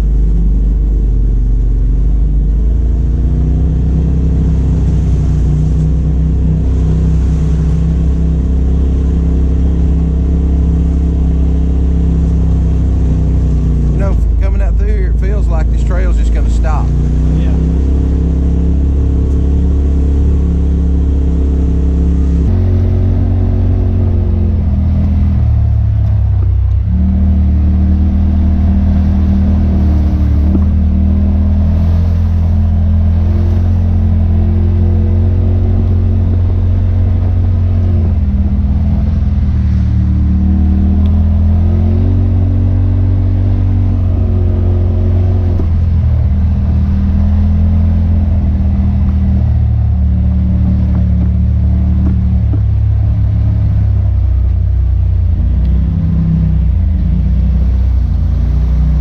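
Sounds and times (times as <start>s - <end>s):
utv engine revving: 0.0s - 59.0s.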